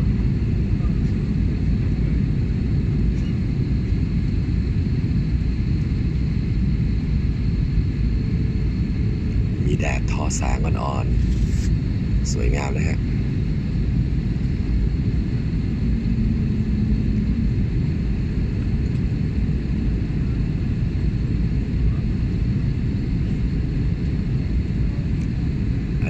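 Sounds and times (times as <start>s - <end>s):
jet engines and airflow rumble: 0.0s - 26.0s.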